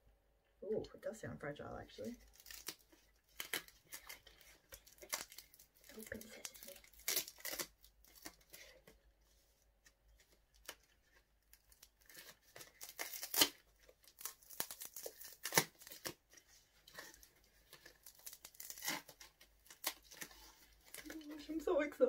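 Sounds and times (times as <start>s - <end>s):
wrapping paper tearing and crinkling: 2.0s - 8.9s, 10.2s - 21.7s.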